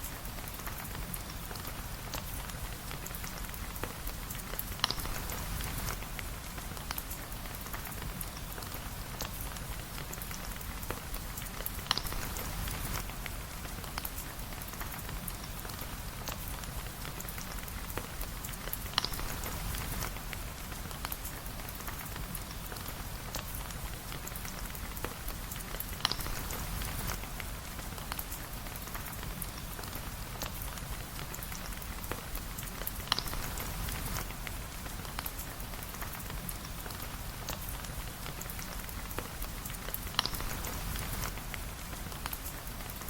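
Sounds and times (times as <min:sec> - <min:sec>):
rain patter: 0:00.0 - 0:43.0.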